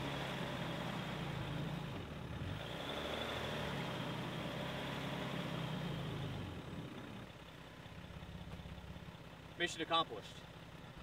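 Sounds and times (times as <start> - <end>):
engine running under throttle: 0.0 - 9.2.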